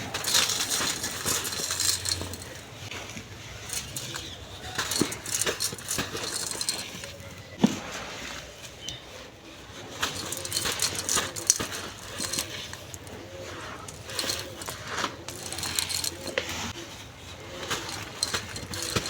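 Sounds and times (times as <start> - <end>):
sand crackling on clay pot: 0.0 - 19.0.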